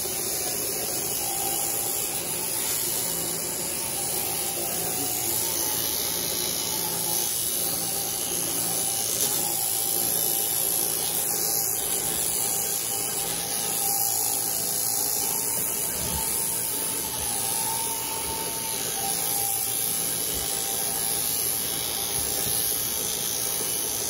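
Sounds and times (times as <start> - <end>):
sheep shears whirring: 0.0 - 24.0.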